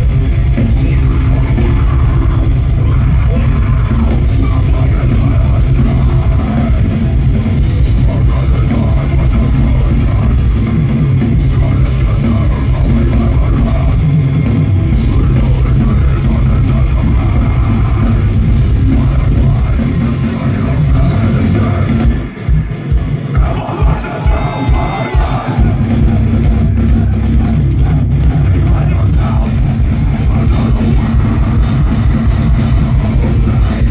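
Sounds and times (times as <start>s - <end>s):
vocalist singing: 0.0s - 22.5s, 23.2s - 33.9s
drum kit: 0.0s - 33.9s
heavy distorted guitars: 0.0s - 33.9s.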